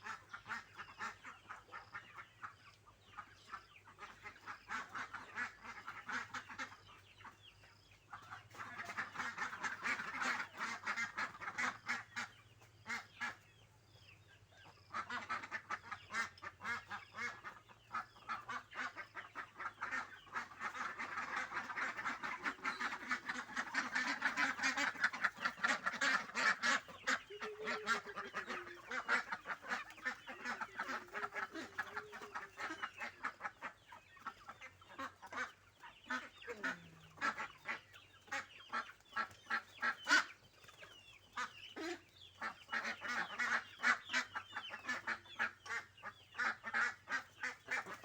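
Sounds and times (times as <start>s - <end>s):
poultry flock chattering: 0.0s - 48.0s.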